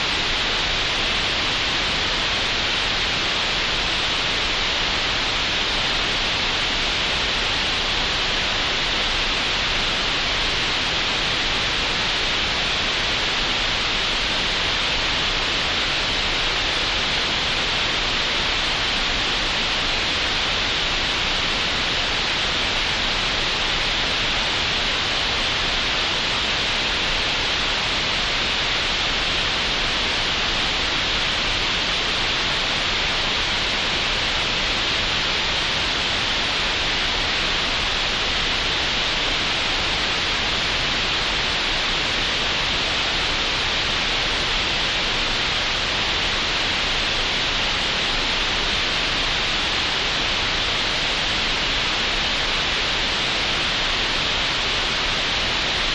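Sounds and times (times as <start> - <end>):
steady noise hiss: 0.0 - 55.9.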